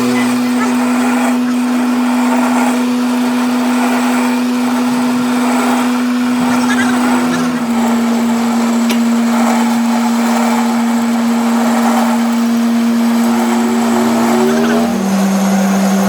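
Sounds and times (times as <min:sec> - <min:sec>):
lathe motor hum and whine: 0:00.0 - 0:16.0.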